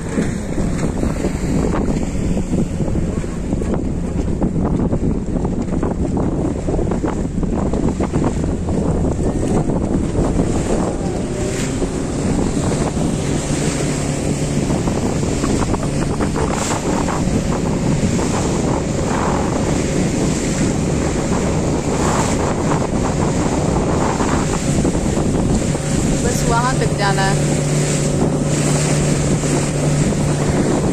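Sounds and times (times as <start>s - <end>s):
motorboat engine drone: 0.0s - 30.9s
water rushing past hull: 0.0s - 30.9s
wind buffeting microphone: 0.0s - 30.9s.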